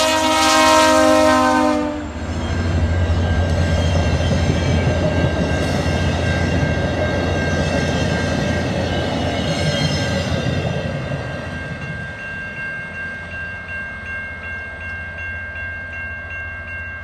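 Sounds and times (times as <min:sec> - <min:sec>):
train rumbling on rails: 0:00.0 - 0:16.8
level-crossing warning bell ringing: 0:00.0 - 0:17.0.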